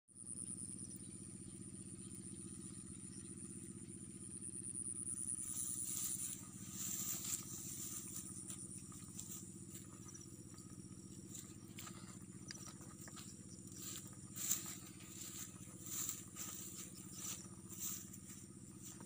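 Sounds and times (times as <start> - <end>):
small engine droning: 0.2 - 19.0.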